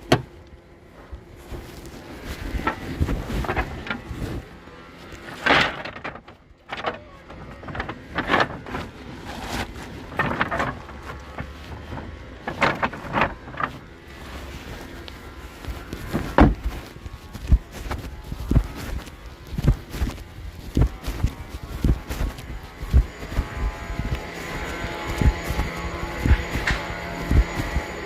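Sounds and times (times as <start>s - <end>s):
knocks and scrapes: 1.4s - 28.0s.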